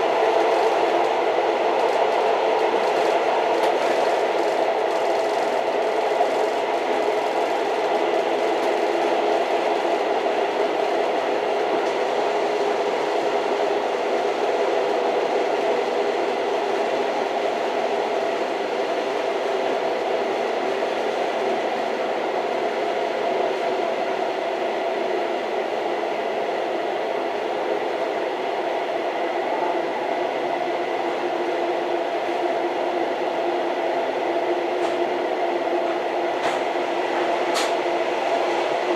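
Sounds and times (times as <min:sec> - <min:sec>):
train running with high whine: 0:00.0 - 0:38.9.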